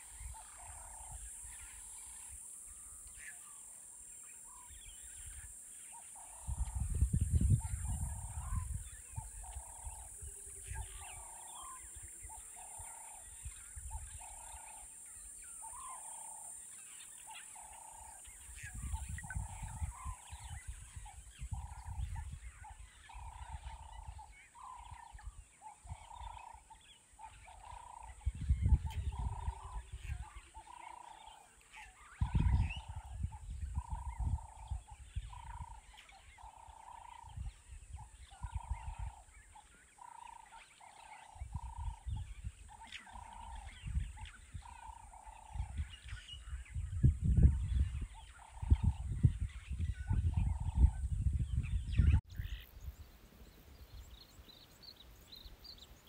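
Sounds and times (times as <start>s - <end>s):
bird calling: 0.0s - 56.0s.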